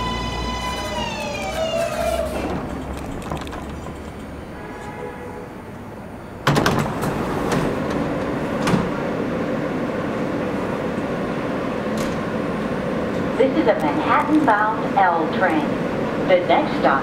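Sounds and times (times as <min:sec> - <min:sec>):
train equipment humming: 0:00.0 - 0:17.0.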